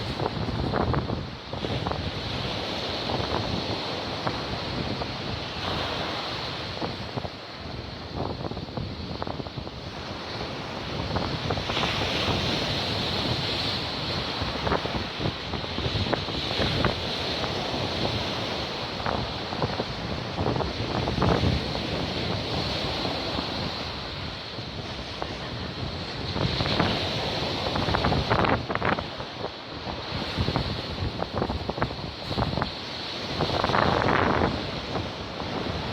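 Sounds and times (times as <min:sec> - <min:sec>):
surf breaking on shore: 0:00.0 - 0:35.9
wind buffeting microphone: 0:00.0 - 0:35.9.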